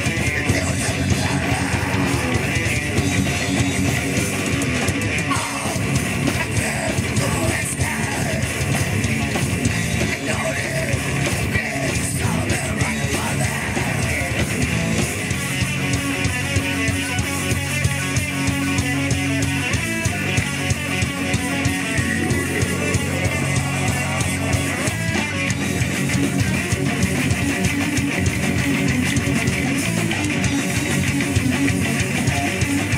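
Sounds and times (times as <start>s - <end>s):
metal band playing: 0.0s - 32.9s.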